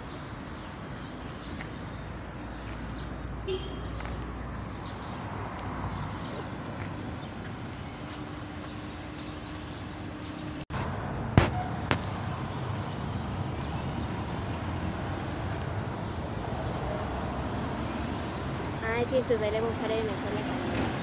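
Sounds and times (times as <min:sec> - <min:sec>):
distant traffic noise: 0:00.0 - 0:21.0.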